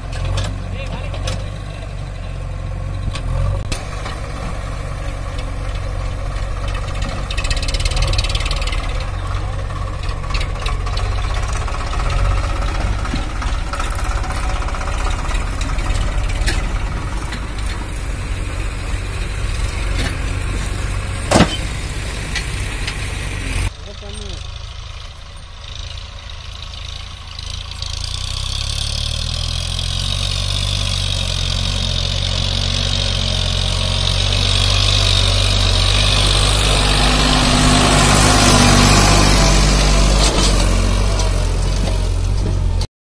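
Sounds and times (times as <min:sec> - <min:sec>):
tractor diesel engine chugging: 0:00.0 - 0:42.8.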